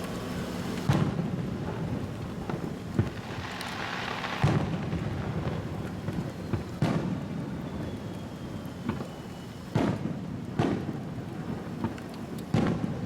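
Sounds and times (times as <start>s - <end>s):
fireworks crackling: 0.0s - 13.0s
fireworks booming: 0.8s - 7.9s, 8.8s - 13.0s.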